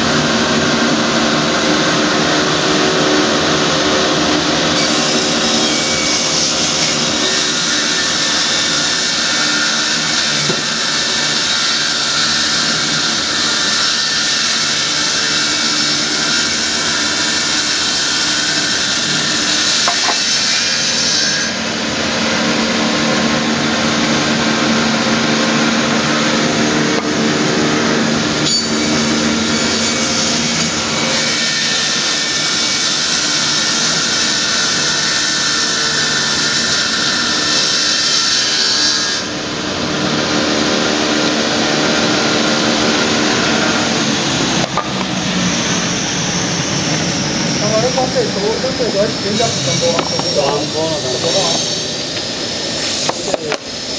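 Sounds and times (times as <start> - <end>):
rip saw whirring: 0.0 - 53.9.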